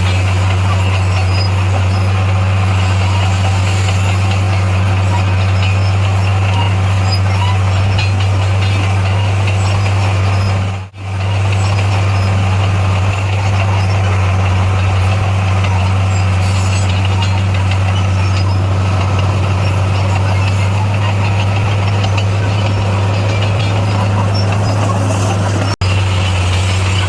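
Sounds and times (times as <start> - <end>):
bulldozer diesel engine running: 0.0 - 27.0
mechanical noise: 0.0 - 27.0.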